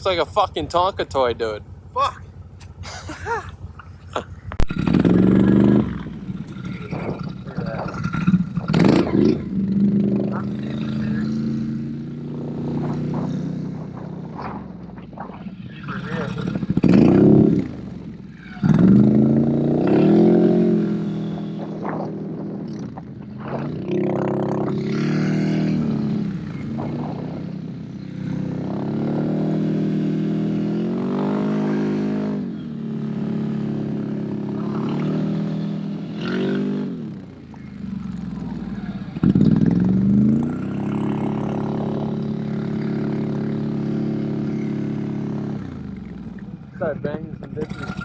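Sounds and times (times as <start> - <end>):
atv engine revving: 0.0 - 48.0.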